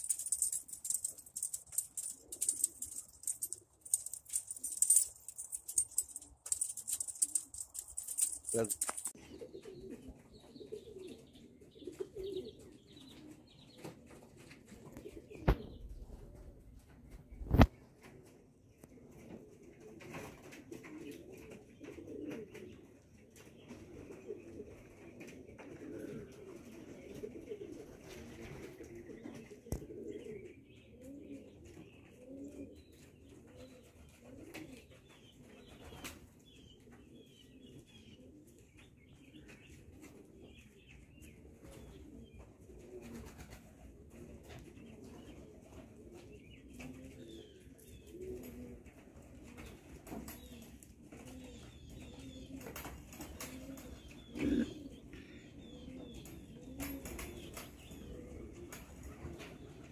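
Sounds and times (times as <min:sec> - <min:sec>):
pigeons cooing: 0:00.0 - 0:16.7, 0:19.0 - 0:59.9.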